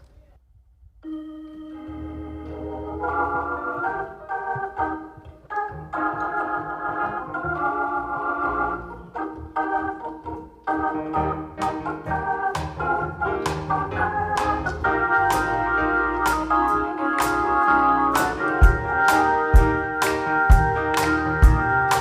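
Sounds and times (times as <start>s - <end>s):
organ playing chords: 0.9s - 22.0s.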